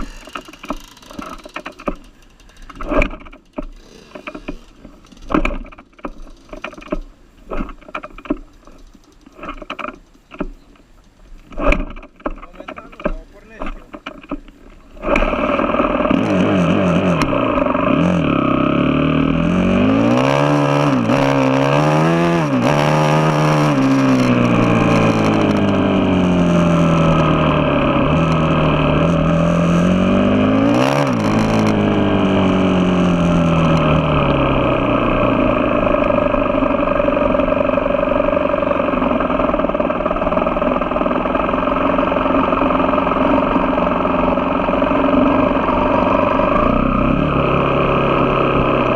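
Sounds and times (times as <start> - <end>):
motorcycle engine revving: 0.0 - 10.6, 11.5 - 48.9.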